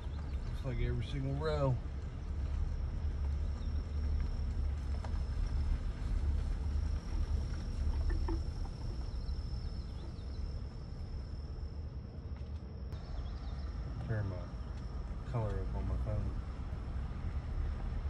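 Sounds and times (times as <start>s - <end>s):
vehicle rumbling on farm track: 0.0s - 10.8s, 13.0s - 18.0s
faint chirps: 0.0s - 12.0s, 12.8s - 16.4s.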